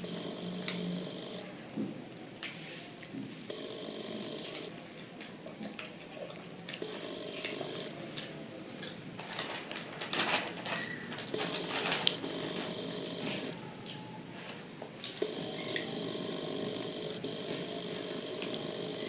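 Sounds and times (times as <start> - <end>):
chewing fried chicken: 3.0 - 18.8.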